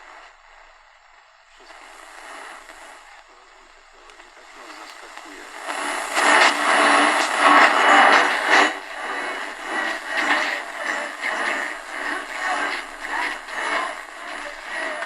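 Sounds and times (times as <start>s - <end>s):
radio hiss and static: 0.0s - 15.0s
radio station playing through speaker: 0.0s - 15.0s.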